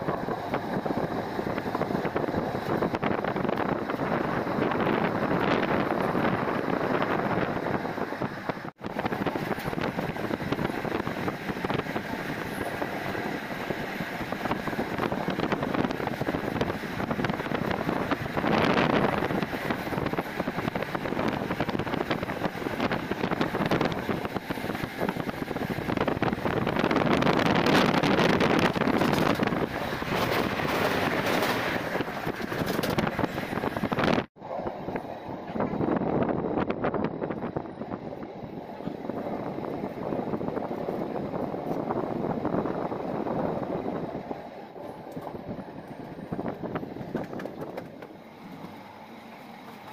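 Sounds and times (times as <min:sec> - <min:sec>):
wind buffeting microphone: 0:00.0 - 0:48.8
express train rushing along track: 0:00.0 - 0:49.9.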